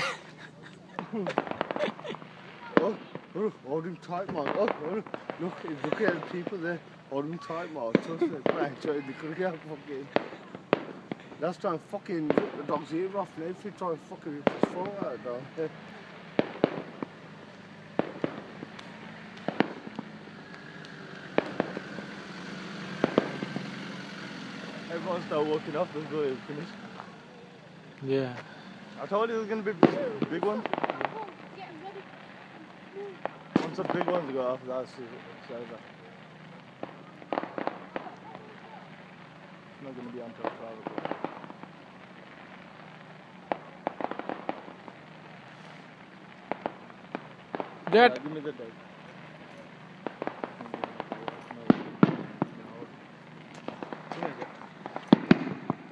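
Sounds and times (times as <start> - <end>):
distant fireworks bursting: 0.0 - 55.9.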